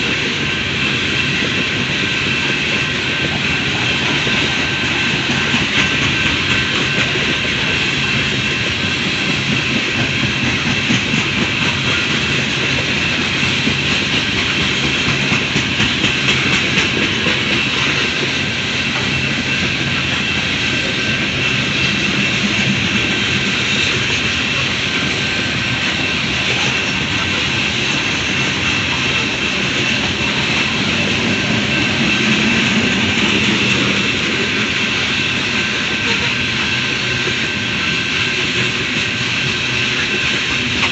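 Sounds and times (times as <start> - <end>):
train rumble: 0.0 - 40.9
train wheels clacking on rail joints: 0.0 - 40.9.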